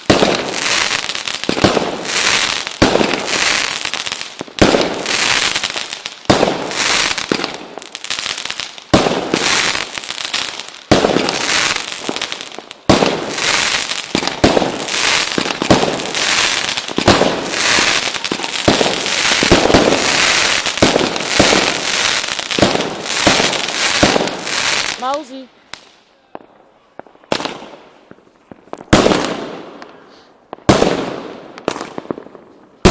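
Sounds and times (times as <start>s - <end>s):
firework bangs: 0.0s - 32.9s.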